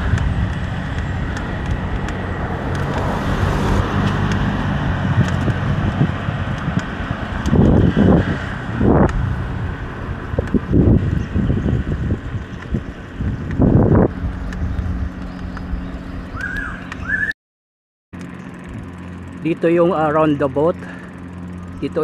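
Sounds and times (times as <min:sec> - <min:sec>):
low engine rumble: 0:00.0 - 0:17.3, 0:18.2 - 0:22.0
vehicle road noise: 0:00.0 - 0:17.3, 0:18.2 - 0:22.0.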